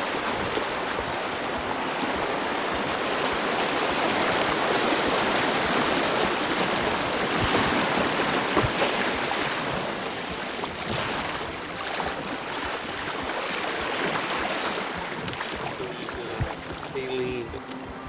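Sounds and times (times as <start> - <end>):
rushing white water: 0.0 - 18.0.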